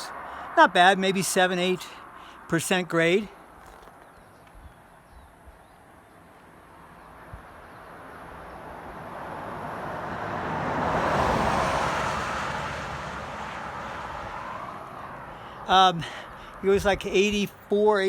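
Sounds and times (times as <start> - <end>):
vehicle passing on road: 0.0 - 5.1, 5.8 - 18.0.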